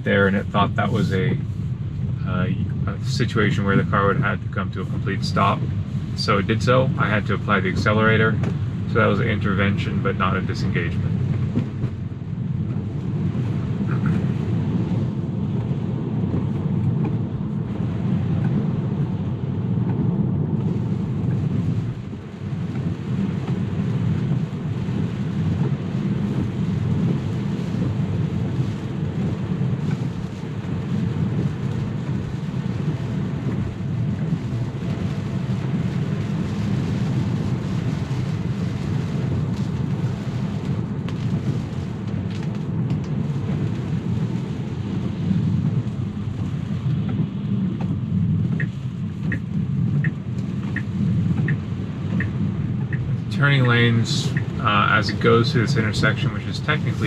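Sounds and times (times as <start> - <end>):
tyres rumbling on wet road: 0.0 - 57.0.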